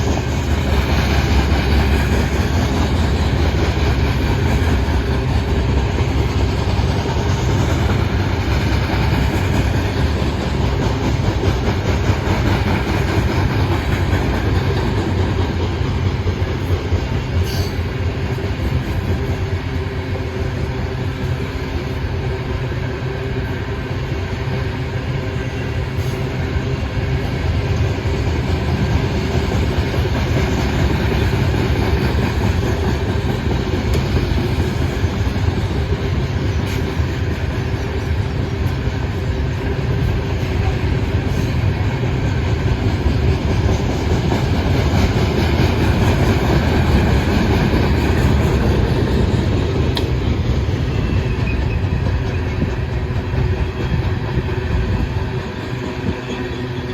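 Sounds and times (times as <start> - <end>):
freight train wheels rumbling: 0.0 - 56.9
train wheels clickety-clack: 0.0 - 56.9.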